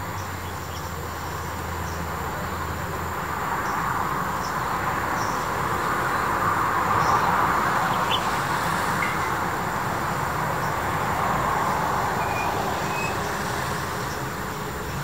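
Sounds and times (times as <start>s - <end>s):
passing vehicle: 0.0s - 15.0s.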